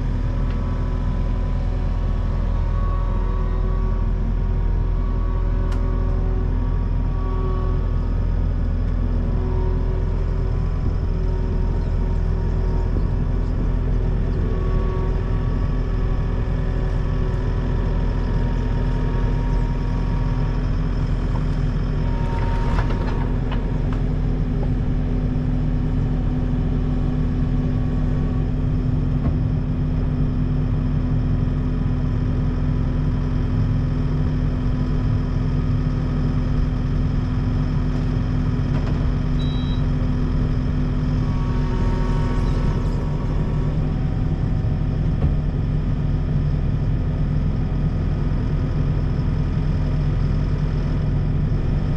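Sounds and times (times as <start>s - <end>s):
engine humming steadily: 0.0s - 51.9s.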